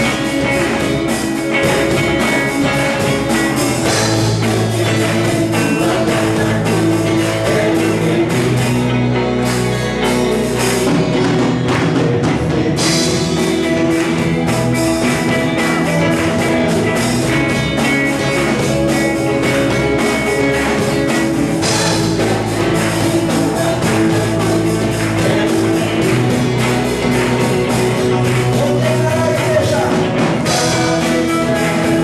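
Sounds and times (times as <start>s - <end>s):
band music with guitar and drums: 0.0s - 32.0s.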